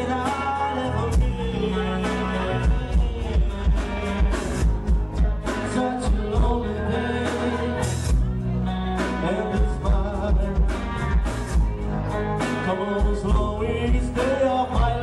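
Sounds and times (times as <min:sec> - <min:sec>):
bass and guitar: 0:00.0 - 0:15.0
drum beat: 0:00.0 - 0:15.0
person singing: 0:00.0 - 0:15.0.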